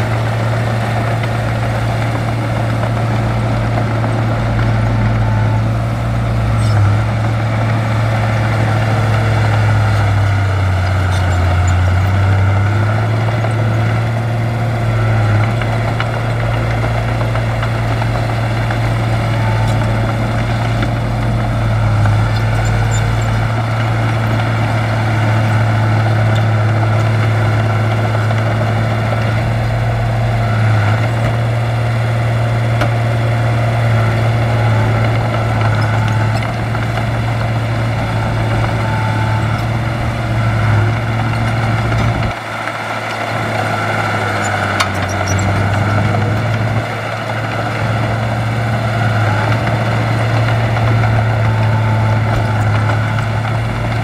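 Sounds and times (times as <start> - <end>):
heavy machine diesel engine drone: 0.0 - 54.0.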